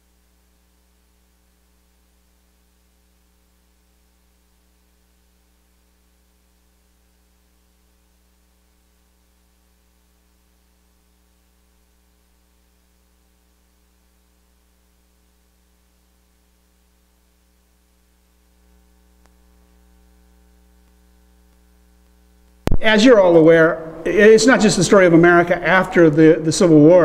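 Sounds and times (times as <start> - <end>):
faint mains hum: 0.0 - 27.0.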